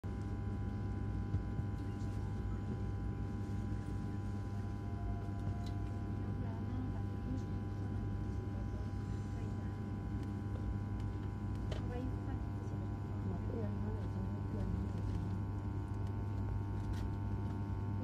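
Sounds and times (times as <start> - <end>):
electrical hum: 0.0 - 18.0
steady whining tones: 0.2 - 16.9.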